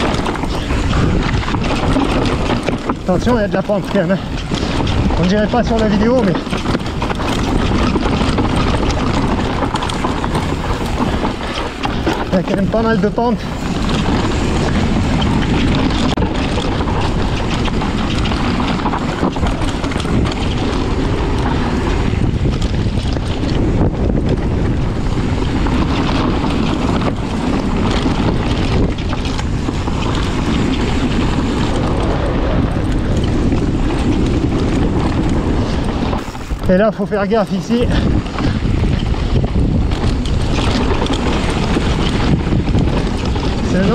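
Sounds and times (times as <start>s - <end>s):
bike rattling over rough ground: 0.0s - 43.9s
wind rushing over microphone: 0.0s - 43.9s.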